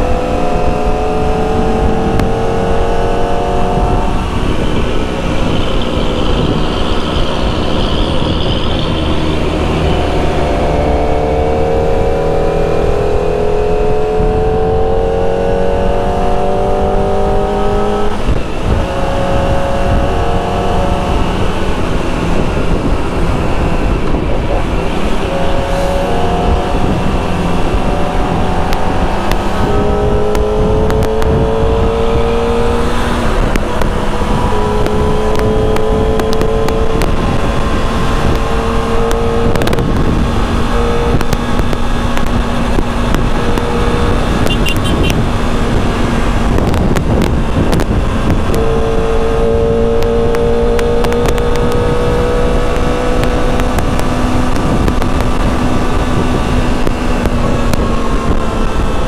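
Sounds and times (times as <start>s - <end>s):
motorcycle engine revving: 0.0s - 59.0s
wind and road noise: 0.0s - 59.0s.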